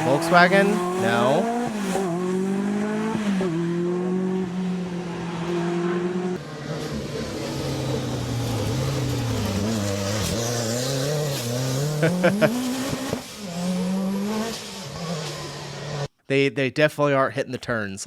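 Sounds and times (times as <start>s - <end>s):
rally car engine revving: 0.0s - 16.1s.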